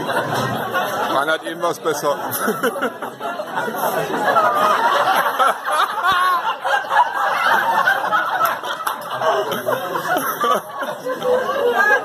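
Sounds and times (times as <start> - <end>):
people talking and chuckling: 0.0 - 12.0.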